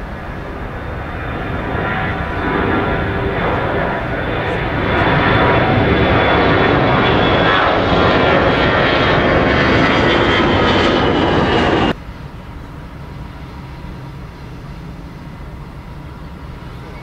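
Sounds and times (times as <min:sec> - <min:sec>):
high whine: 0:00.0 - 0:17.0
jet engines roaring: 0:00.0 - 0:17.0.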